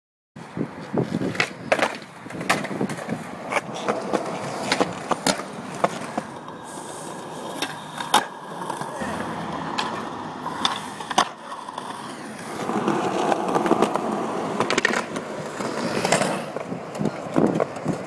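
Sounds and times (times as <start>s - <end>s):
skateboard rolling on concrete: 0.4s - 18.0s
skateboard clacks: 0.8s - 18.0s.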